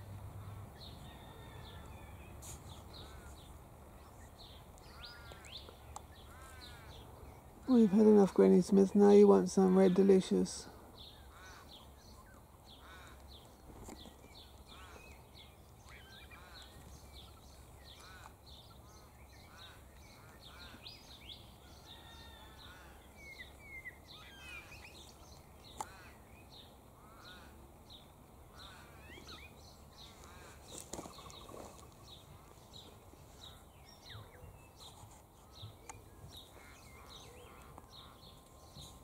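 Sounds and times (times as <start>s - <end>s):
wild birds chirping: 0.0s - 39.0s.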